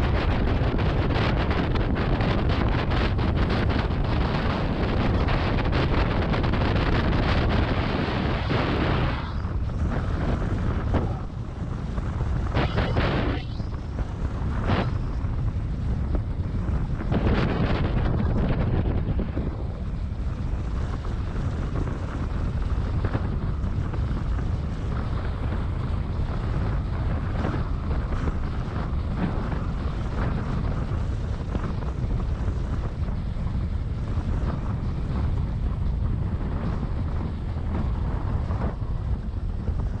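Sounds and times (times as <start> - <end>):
sledge runners scraping over snow: 0.0 - 40.0
wind buffeting microphone: 0.0 - 40.0.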